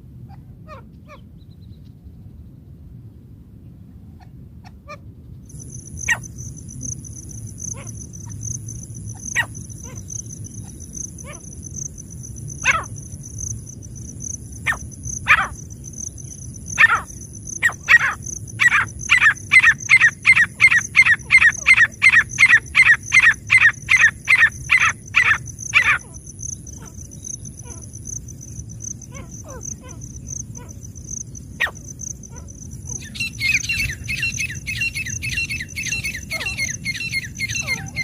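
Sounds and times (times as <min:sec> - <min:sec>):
francolin calling: 0:05.5 - 0:38.0.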